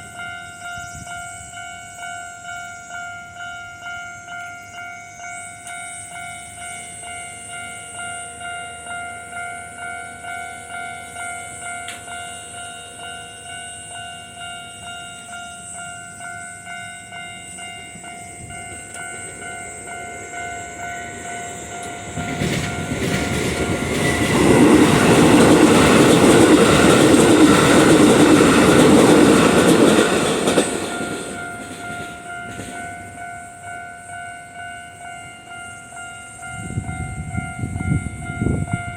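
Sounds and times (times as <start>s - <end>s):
train passing: 0.0s - 38.9s.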